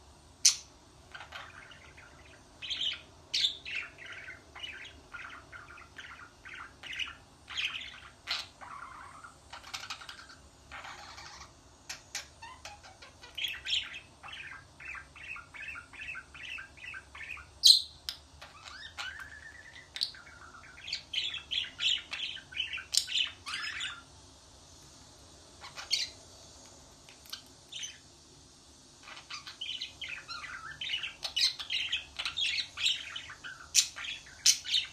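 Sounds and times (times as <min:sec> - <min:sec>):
small bird chirping: 0:00.4 - 0:24.2, 0:25.5 - 0:28.2, 0:29.0 - 0:34.9.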